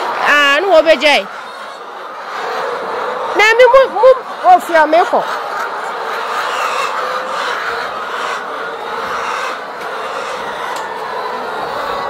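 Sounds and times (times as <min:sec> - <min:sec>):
hens clucking and squawking: 0:00.0 - 0:12.0.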